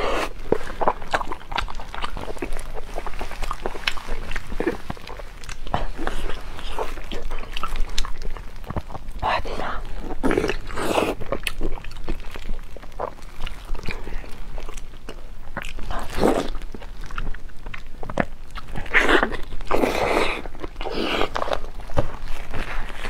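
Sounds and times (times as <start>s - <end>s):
biting and chewing food: 0.0s - 23.0s.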